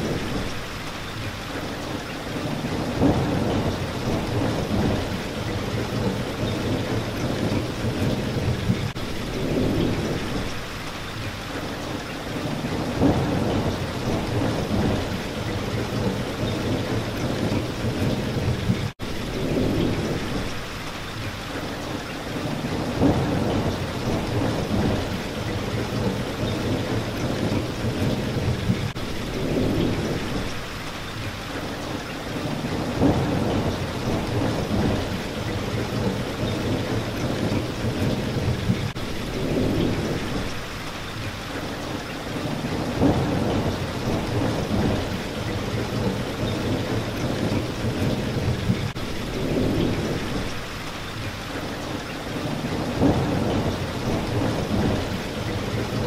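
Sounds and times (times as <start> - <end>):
steady rain: 0.0 - 56.0
rolling thunder: 2.4 - 10.7, 12.3 - 20.6, 22.3 - 30.7, 32.3 - 40.9, 42.3 - 50.9, 52.3 - 56.0.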